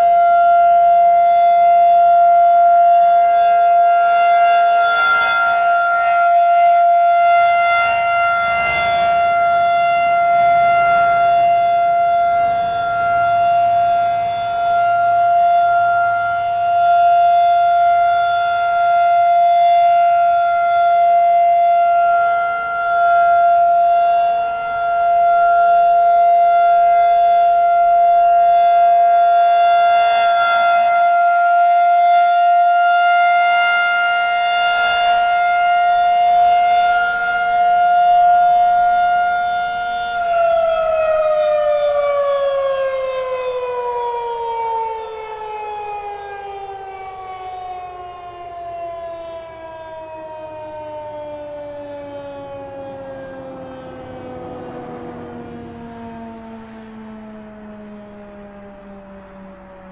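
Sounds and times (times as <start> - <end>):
rotating warning siren: 0.0 - 59.9.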